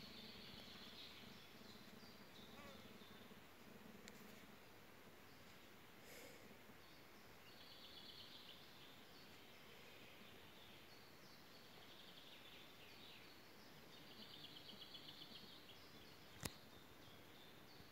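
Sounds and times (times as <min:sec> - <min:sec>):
quiet hiss: 0:00.0 - 0:17.9.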